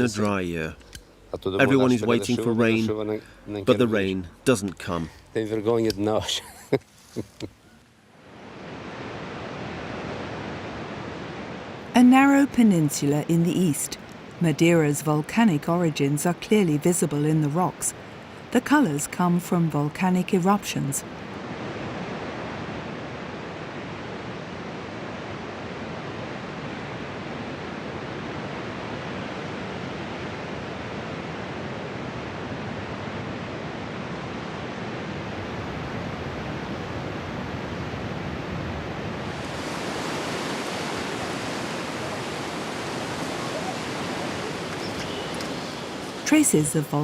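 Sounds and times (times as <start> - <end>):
ocean surf rushing: 8.2 - 47.0.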